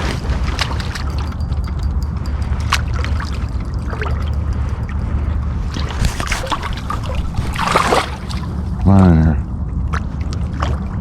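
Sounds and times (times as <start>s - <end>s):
creek water running: 0.0s - 8.8s
water splashes: 0.0s - 8.8s
low rumble: 0.3s - 11.0s.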